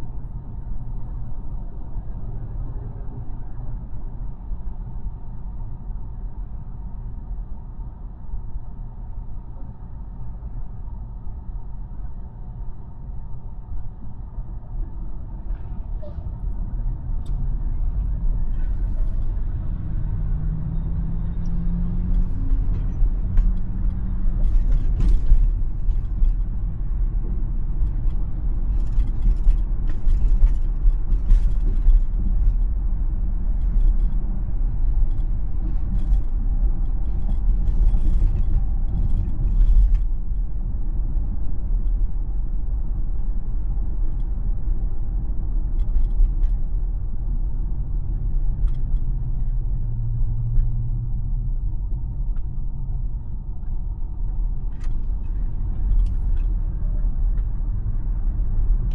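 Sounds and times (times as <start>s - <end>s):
road and tyre rumble: 0.0s - 58.9s.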